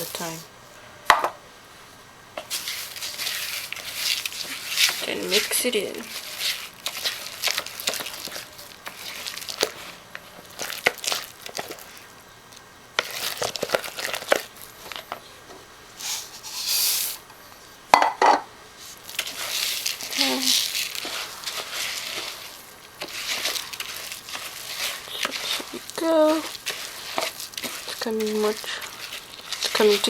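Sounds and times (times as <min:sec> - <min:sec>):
spoon stirring seed dough: 0:00.0 - 0:00.5, 0:02.4 - 0:15.2, 0:18.8 - 0:30.0.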